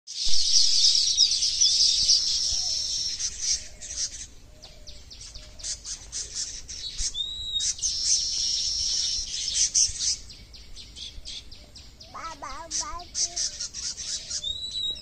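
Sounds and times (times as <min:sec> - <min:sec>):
weaver birds chattering: 0:00.1 - 0:15.0.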